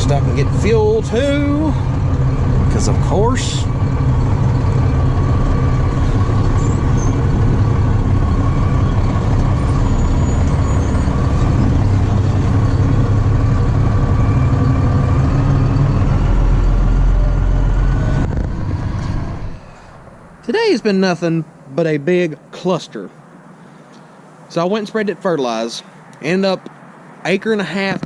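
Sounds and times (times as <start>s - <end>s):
truck engine and road rumble: 0.0s - 28.0s.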